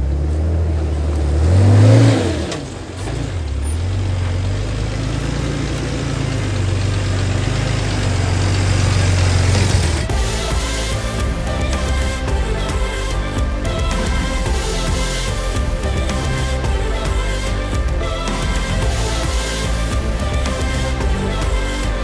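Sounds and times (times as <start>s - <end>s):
off-road vehicle engine: 0.0s - 22.0s.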